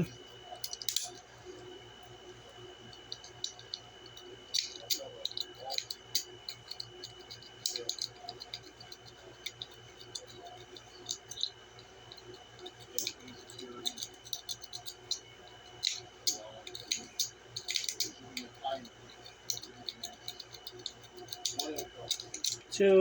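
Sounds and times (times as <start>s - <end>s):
lock picks clicking and scratching: 0.6s - 1.2s, 3.0s - 18.5s, 19.1s - 22.7s.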